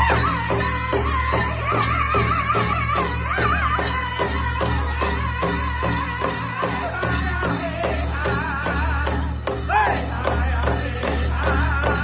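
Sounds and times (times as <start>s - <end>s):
high voices singing together: 0.0s - 12.0s.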